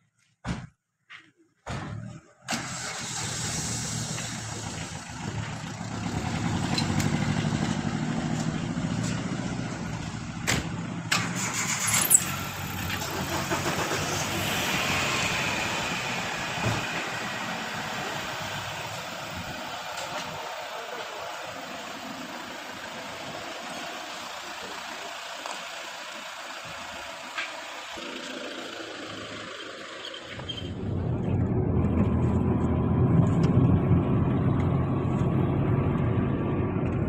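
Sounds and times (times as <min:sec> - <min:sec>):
pickup truck engine pulling away: 0:02.5 - 0:37.0.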